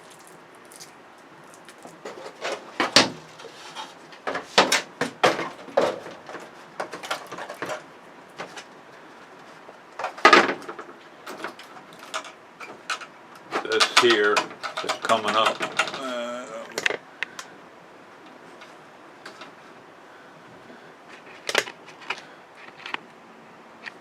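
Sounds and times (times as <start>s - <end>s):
hands handling television parts: 0.0s - 17.6s, 18.2s - 19.6s, 21.1s - 23.1s.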